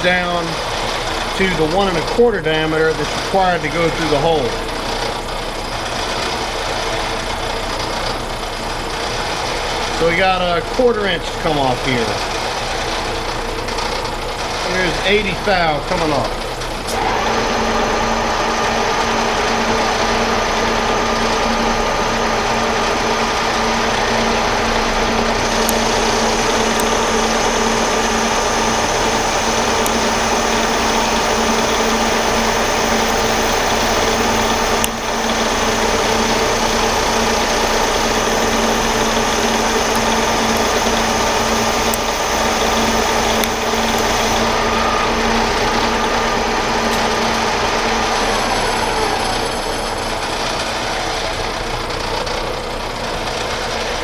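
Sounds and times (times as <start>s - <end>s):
lathe motor and gear whine: 0.0s - 54.0s.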